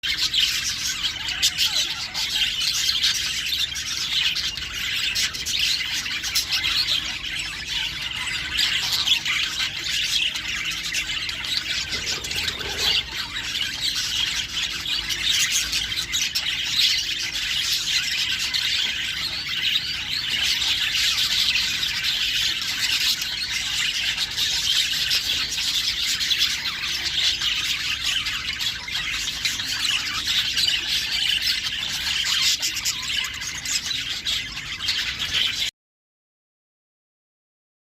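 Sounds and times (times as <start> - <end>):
budgerigars chattering and squawking: 0.0 - 35.7.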